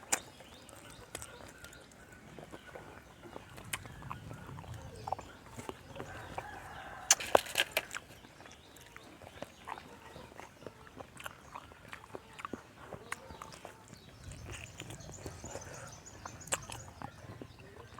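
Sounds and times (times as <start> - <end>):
chickens clucking: 0.0 - 17.9.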